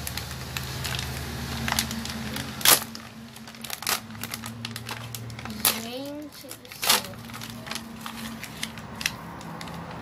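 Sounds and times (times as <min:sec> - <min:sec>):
plastic packaging crackling: 0:00.0 - 0:10.0
plastic packaging snapping: 0:00.0 - 0:10.0.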